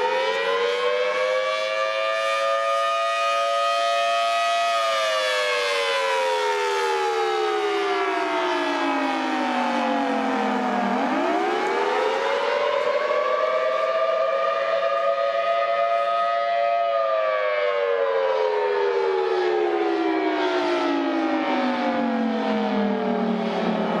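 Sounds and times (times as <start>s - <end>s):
warning siren wailing: 0.0s - 24.0s.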